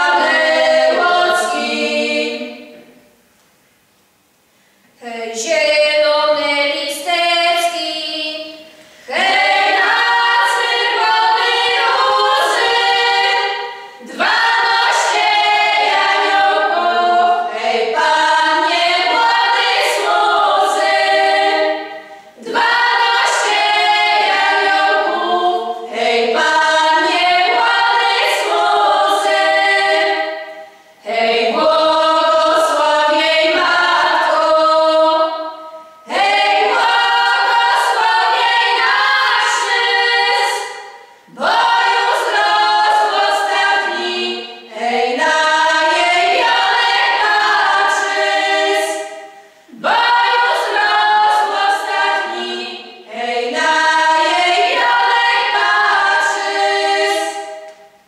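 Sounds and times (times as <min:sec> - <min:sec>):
women singing a cappella: 0:00.0 - 0:03.1, 0:05.0 - 0:58.0.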